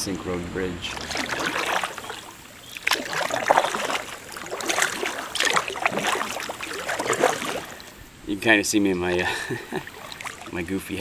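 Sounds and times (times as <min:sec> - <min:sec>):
paddle splashing in water: 0:00.0 - 0:11.0
water dripping: 0:00.8 - 0:08.1, 0:08.8 - 0:11.0.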